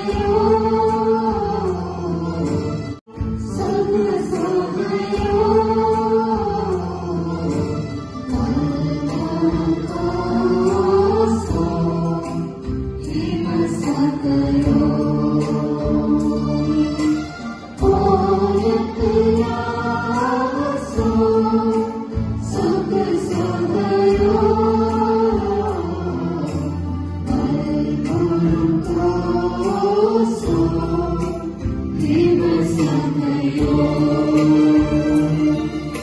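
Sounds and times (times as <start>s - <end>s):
choir singing: 0.0s - 36.0s.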